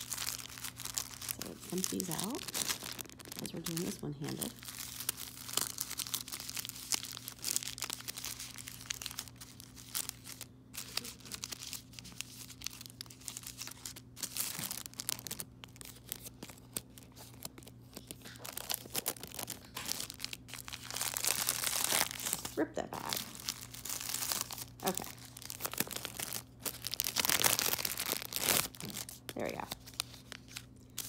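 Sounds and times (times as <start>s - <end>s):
plastic packaging crinkling: 0.0s - 31.0s.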